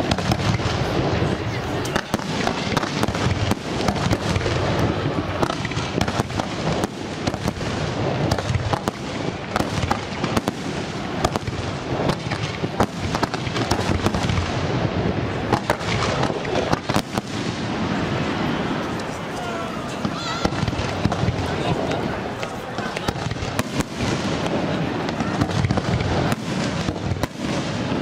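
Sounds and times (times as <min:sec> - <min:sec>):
firework bangs: 0:00.0 - 0:28.0
rumble of explosions: 0:00.0 - 0:28.0.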